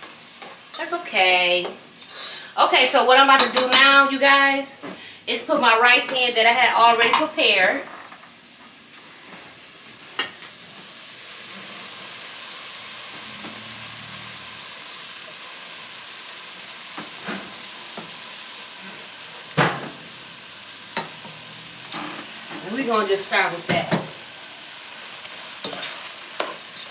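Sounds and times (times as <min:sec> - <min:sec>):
vegetables sizzling in a pot: 0:00.0 - 0:26.9.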